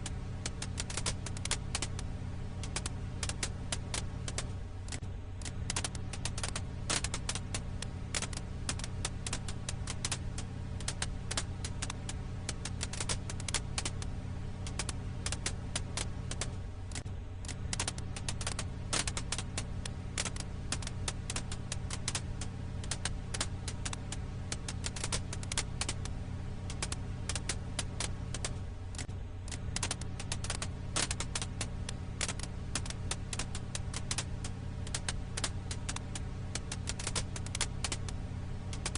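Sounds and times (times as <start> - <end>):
firewood crackling: 0.0 - 38.9
steady low hum: 0.0 - 38.9.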